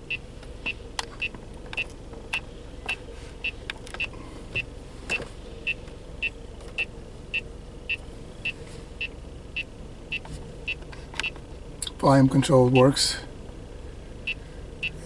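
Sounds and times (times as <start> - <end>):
car engine idling hum: 0.0 - 15.0
turn signal ticking: 0.0 - 15.0.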